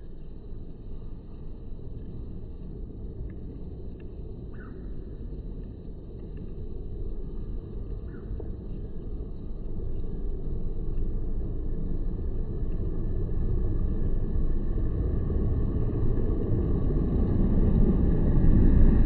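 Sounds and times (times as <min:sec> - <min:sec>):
low outdoor background rumble: 0:00.0 - 0:19.0.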